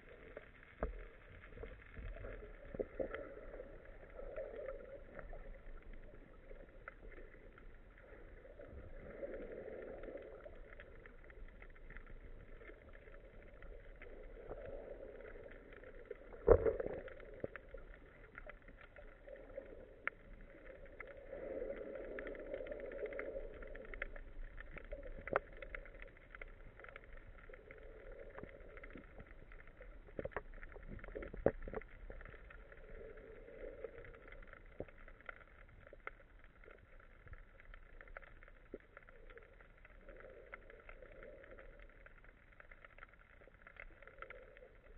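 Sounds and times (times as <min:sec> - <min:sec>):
faint clicks: 0:00.0 - 0:44.9
muffled underwater water noise: 0:00.0 - 0:44.9.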